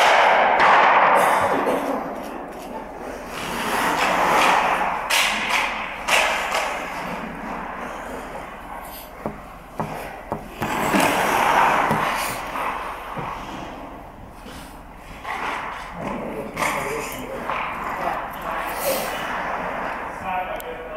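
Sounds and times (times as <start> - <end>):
stick hitting puck: 0.0 - 14.0, 15.1 - 20.2
pucks knocking: 0.0 - 20.2
skates scraping on ice: 1.2 - 20.6.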